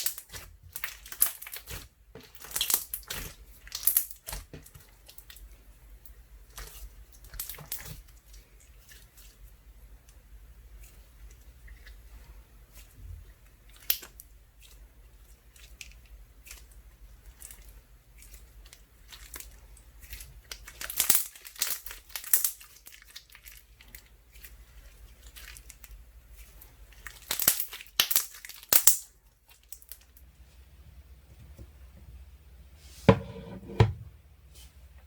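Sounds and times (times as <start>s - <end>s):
slime crackling by hand: 0.0s - 30.2s.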